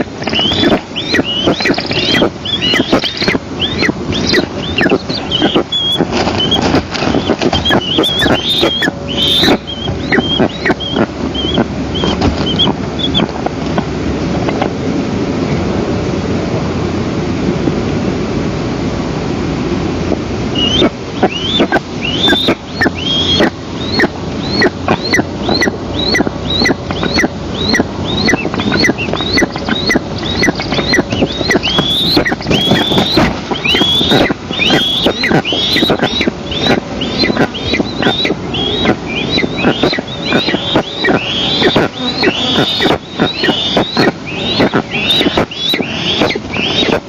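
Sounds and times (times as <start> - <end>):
eagle chicks begging chirps: 0.0 - 13.4, 20.5 - 47.0
wind noise: 0.0 - 47.0.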